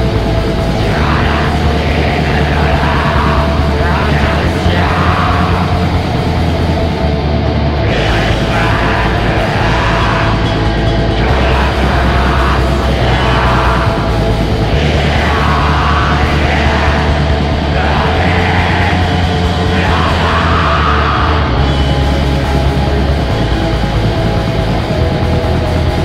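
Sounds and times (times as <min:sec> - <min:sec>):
distorted guitars and drums: 0:00.0 - 0:26.0
harsh shouted vocals: 0:00.0 - 0:26.0.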